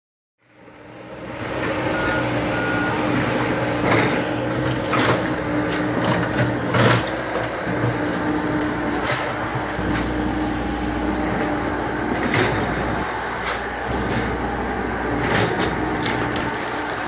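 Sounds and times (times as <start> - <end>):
excavator diesel engine running: 0.4 - 17.0.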